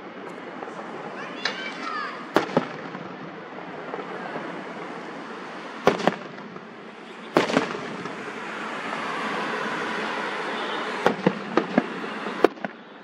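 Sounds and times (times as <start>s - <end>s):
fireworks bangs: 0.6s - 13.0s.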